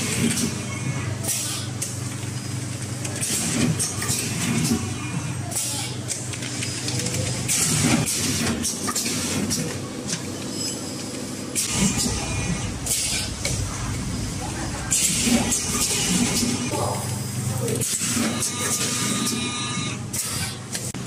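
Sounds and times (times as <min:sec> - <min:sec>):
machine motor hum: 0:00.0 - 0:21.0.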